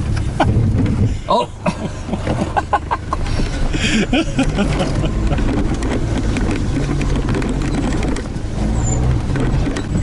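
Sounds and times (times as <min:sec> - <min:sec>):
knocks and rattles over rough ground: 0:00.0 - 0:10.0
truck engine running: 0:00.0 - 0:10.0.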